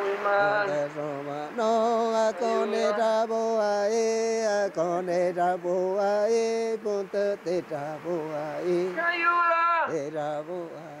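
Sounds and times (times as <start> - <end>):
person chanting: 0.0 - 11.0.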